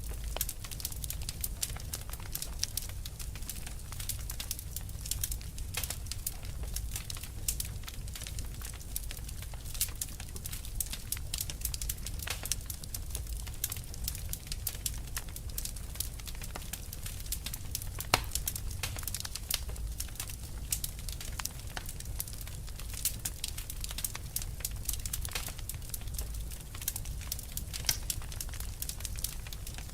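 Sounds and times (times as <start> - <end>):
fire crackling and popping: 0.0 - 29.9.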